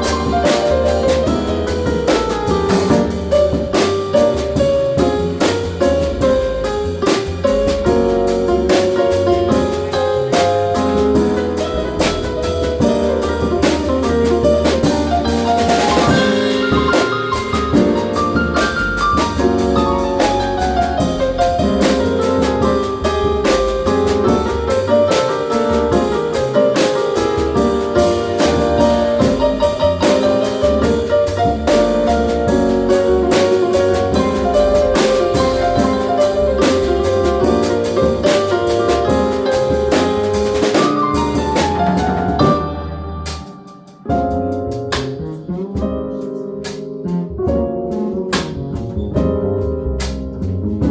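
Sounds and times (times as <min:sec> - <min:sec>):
bass line: 0:00.0 - 0:50.9
drum kit: 0:00.0 - 0:50.9
piano: 0:00.0 - 0:50.9.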